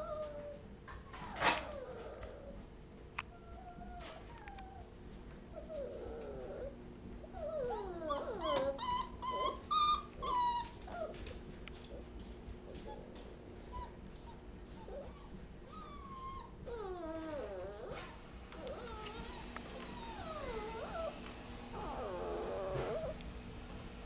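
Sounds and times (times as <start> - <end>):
puppies whining and squealing: 0.0 - 2.6, 3.3 - 4.9, 5.5 - 11.3, 12.7 - 23.2.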